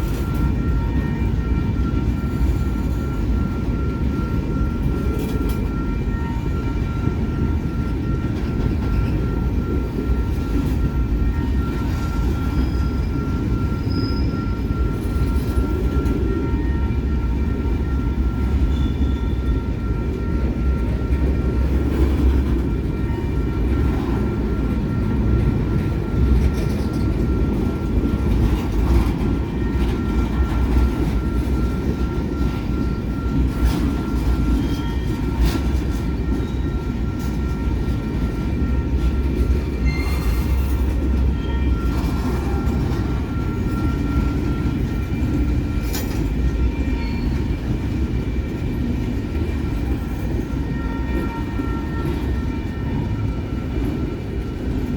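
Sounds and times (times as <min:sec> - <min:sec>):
train rumbling past: 0:00.0 - 0:54.9
wheels squealing on rails: 0:00.0 - 0:54.9.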